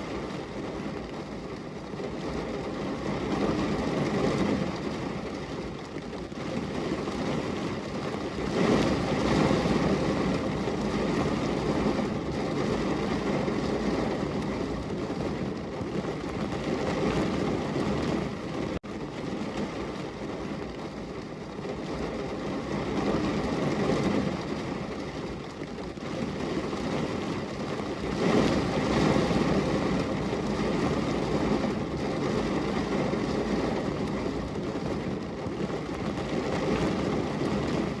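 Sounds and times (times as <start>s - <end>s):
heavy rain on a window: 0.0s - 38.0s.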